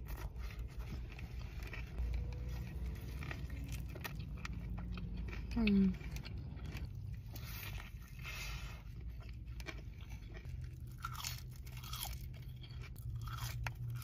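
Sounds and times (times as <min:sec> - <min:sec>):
crispy chicken crunching: 0:00.0 - 0:14.0.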